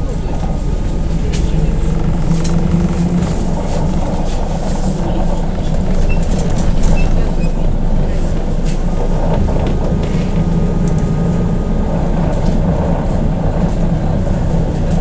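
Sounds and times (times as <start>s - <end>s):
trolleybus rumbling: 0.0s - 15.0s.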